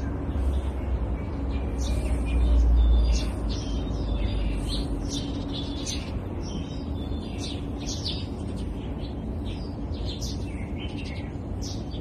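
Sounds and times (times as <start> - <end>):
birds chirping: 0.0 - 12.0
low background rumble: 0.0 - 12.0.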